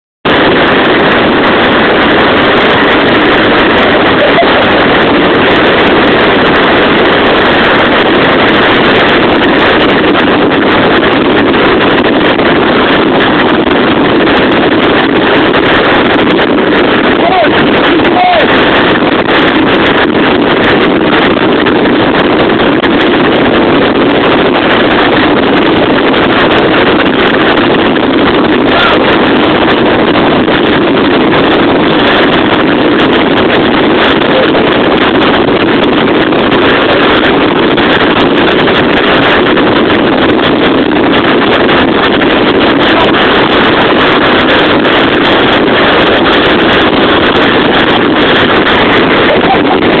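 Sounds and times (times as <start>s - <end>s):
wind noise on microphone: 0.0s - 50.0s.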